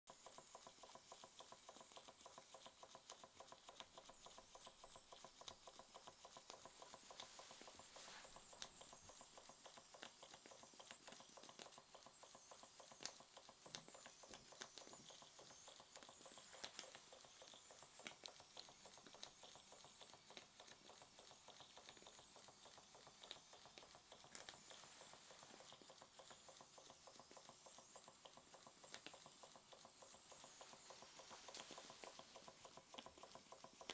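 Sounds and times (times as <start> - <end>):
model steam engine running: 0.1 - 33.9.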